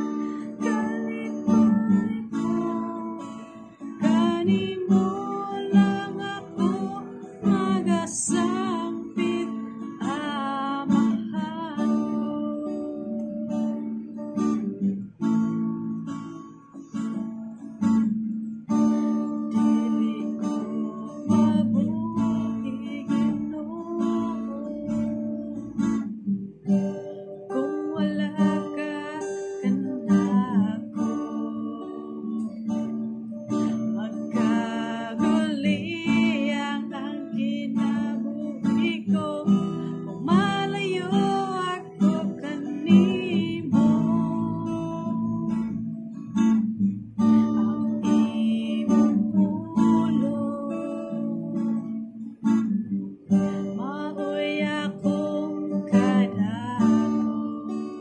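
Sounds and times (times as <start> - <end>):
woman singing with vibrato: 0.0 - 14.0, 19.5 - 25.6, 27.0 - 32.8, 33.5 - 46.0, 47.6 - 52.1, 53.4 - 58.0
acoustic guitar strumming: 0.0 - 58.0.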